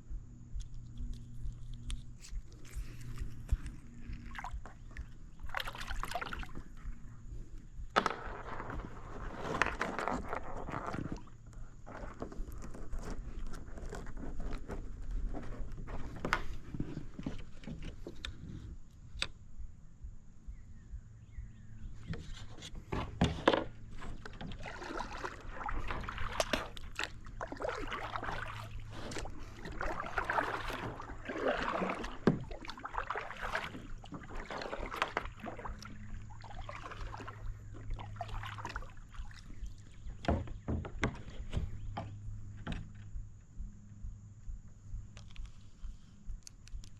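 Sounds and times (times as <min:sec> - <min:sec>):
water sloshing: 0:00.0 - 0:18.7, 0:21.9 - 0:43.8
faint steady hum: 0:00.0 - 0:46.9
knocks and scrapes on kayak: 0:01.9 - 0:18.9, 0:21.8 - 0:43.2.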